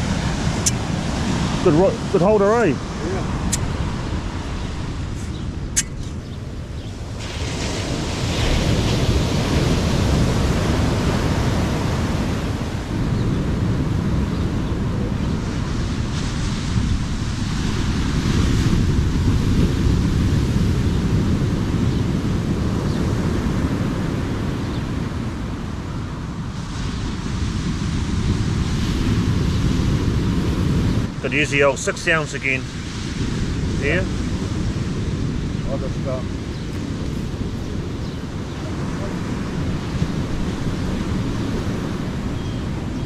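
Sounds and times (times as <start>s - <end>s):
wind on microphone: 0.0s - 43.0s.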